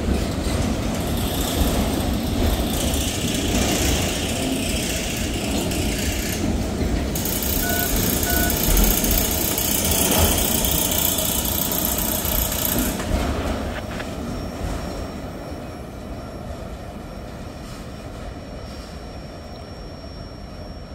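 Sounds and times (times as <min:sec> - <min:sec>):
train wheels rumbling on rail: 0:00.0 - 0:20.8.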